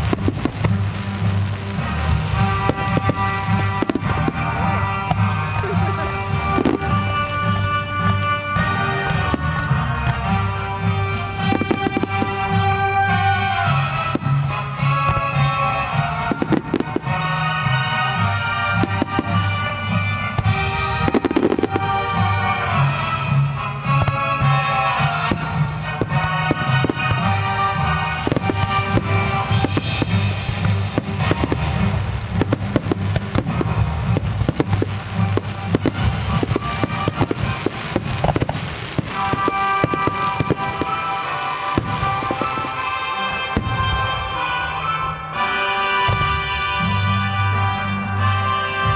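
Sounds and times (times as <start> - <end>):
firework bursts: 0.0 - 48.9
music: 0.0 - 48.9.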